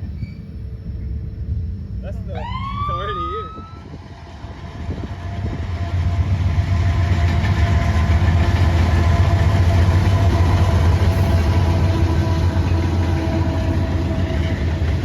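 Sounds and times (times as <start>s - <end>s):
diesel locomotive engine hum: 0.0s - 15.0s.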